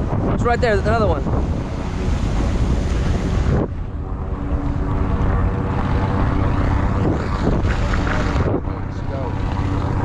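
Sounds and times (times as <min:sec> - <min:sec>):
boat motor running: 0:00.0 - 0:10.0
wind noise on microphone: 0:00.0 - 0:10.0.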